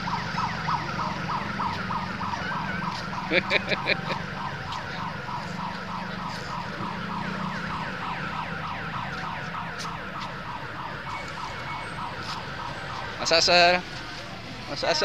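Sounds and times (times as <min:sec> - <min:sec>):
electronic siren wailing: 0:00.0 - 0:13.7.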